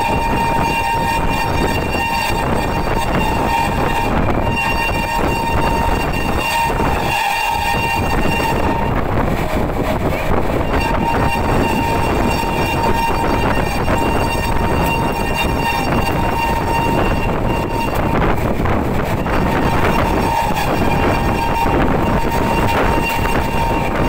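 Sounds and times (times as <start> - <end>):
shrill train horn: 0.0 - 24.0.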